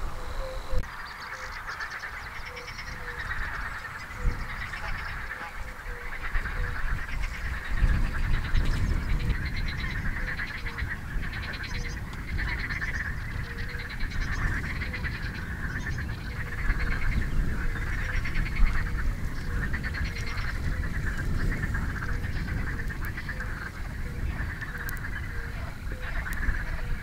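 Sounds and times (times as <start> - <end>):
birds calling in chorus: 0.0 - 27.0.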